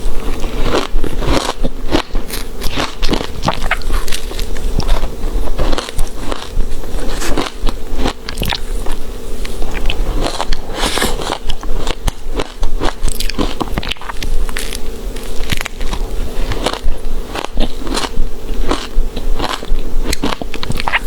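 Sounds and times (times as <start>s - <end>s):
ice being chewed: 0.1s - 21.0s.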